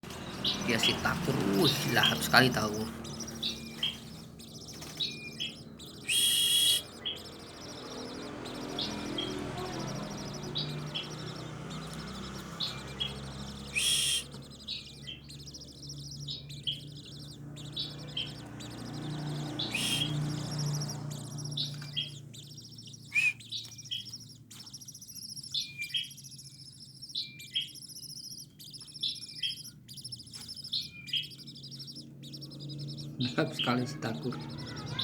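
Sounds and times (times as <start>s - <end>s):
bird chick chirping: 0.0s - 35.0s
harsh bird calls: 0.0s - 35.0s.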